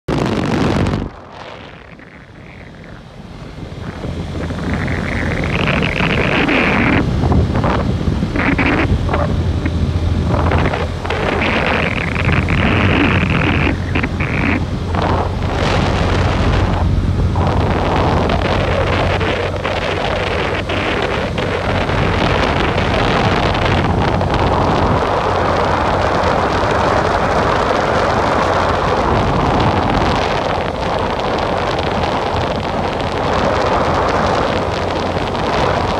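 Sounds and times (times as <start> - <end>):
motorcycle engine hum: 0.0 - 35.9
wind buffeting microphone: 0.1 - 35.9.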